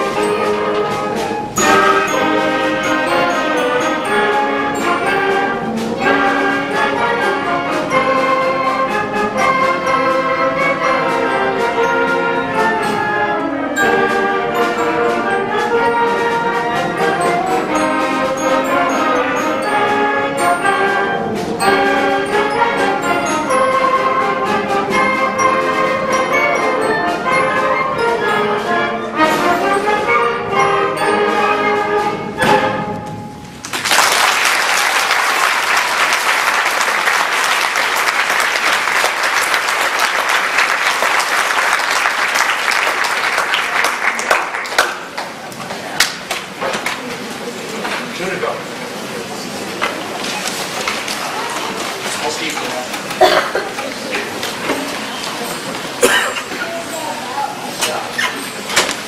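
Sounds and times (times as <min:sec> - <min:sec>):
concert band playing: 0:00.0 - 0:48.1.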